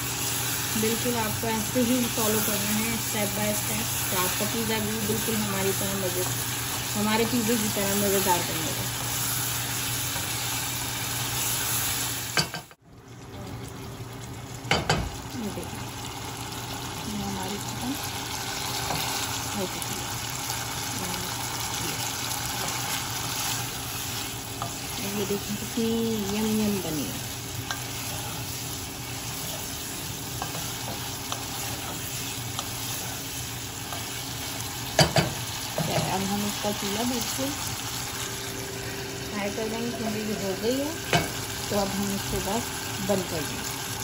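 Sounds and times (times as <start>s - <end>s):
chicken sizzling in oil: 0.0s - 12.8s, 13.4s - 44.0s.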